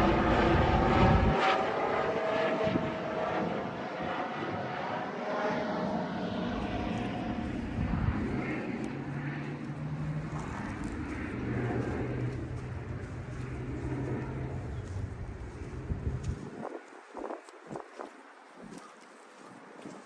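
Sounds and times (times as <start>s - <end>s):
distant engine drone: 0.0s - 20.0s
outdoor background noise: 0.0s - 20.0s.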